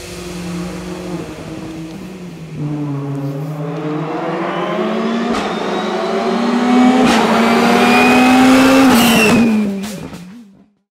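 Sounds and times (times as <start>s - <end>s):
sharp engine crack: 0.0s - 10.4s
rally car engine revving: 0.0s - 10.6s.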